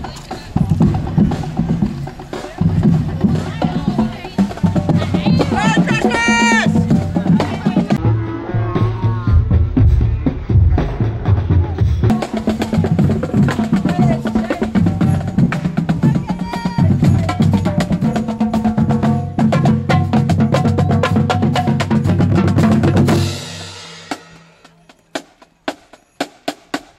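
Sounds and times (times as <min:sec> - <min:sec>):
marching band playing: 0:00.0 - 0:26.9.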